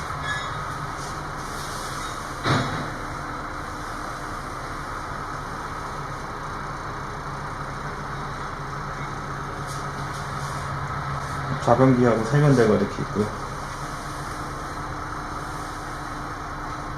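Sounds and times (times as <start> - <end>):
crane engine droning: 0.0 - 16.9.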